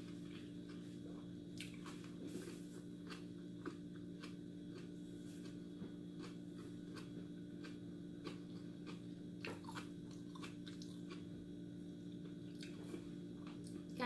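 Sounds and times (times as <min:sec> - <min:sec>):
person chewing with wet clicks: 0:00.0 - 0:14.0
steady low hum: 0:00.0 - 0:14.0.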